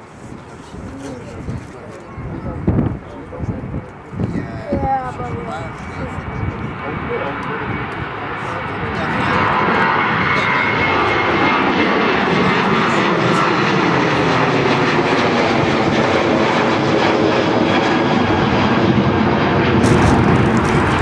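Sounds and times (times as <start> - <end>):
airliner engines rushing: 0.0 - 21.0.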